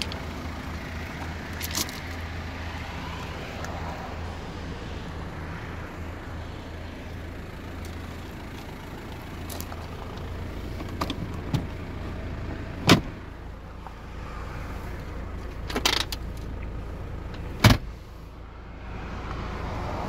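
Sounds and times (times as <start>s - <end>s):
steady low rumble: 0.0s - 19.7s.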